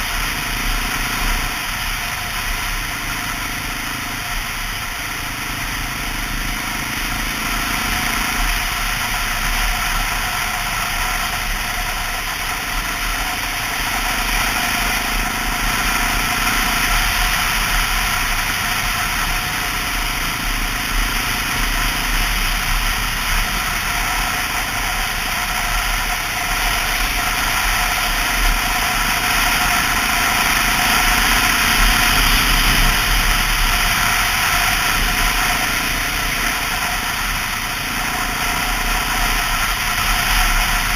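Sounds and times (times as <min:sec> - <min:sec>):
motorcycle engine running: 0:00.0 - 0:40.9
wind and road rush: 0:00.0 - 0:40.9.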